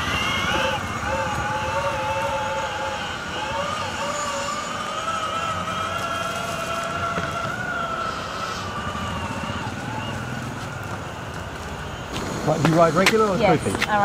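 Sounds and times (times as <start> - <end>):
electric motor whine: 0.0 - 14.0
wheels rolling on concrete: 0.0 - 14.0.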